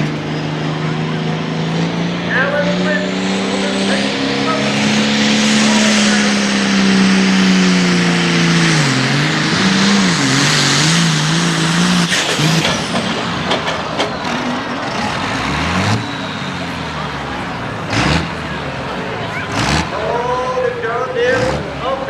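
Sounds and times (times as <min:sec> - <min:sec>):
exhaust rushing: 0:00.0 - 0:22.0
tractor diesel engine at full throttle: 0:00.0 - 0:22.0.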